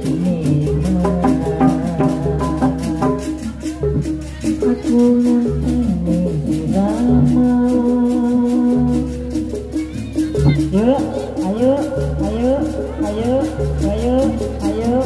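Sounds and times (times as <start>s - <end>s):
fast percussion beat: 0.0s - 15.0s
held melody notes: 0.0s - 15.0s.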